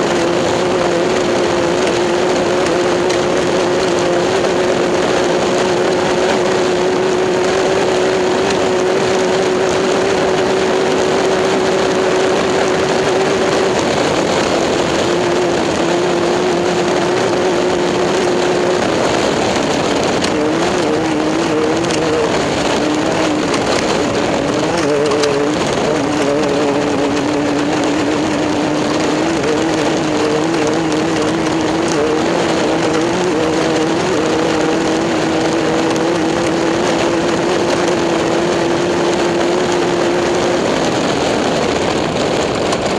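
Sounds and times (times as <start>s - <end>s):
race car engines running: 0.0s - 42.9s.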